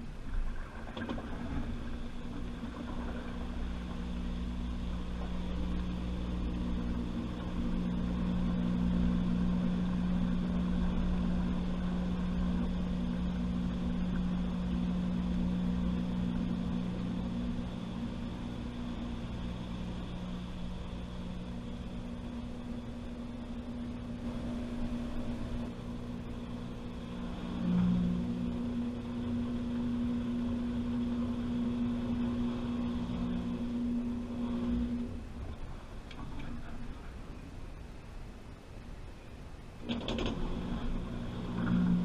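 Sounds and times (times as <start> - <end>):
washing machine humming: 0.0 - 42.0.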